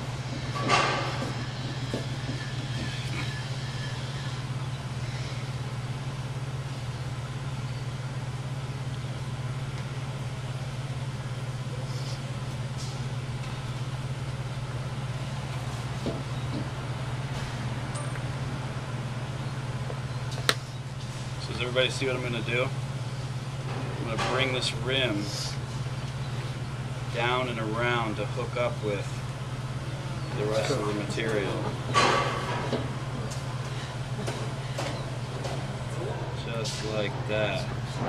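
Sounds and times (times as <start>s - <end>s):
low mechanical hum: 0.0s - 38.0s.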